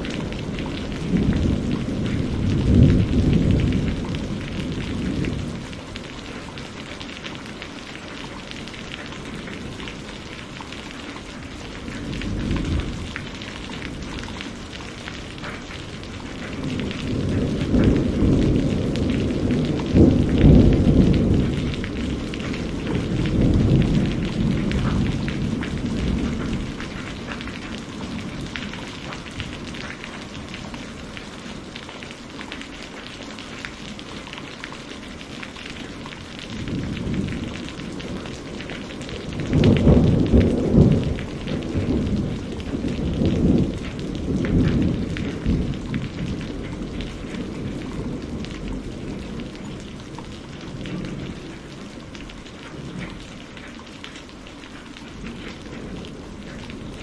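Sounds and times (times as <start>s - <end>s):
thunder rumble: 0.0s - 8.1s, 11.5s - 32.0s, 35.5s - 53.2s
steady rain: 0.0s - 57.0s.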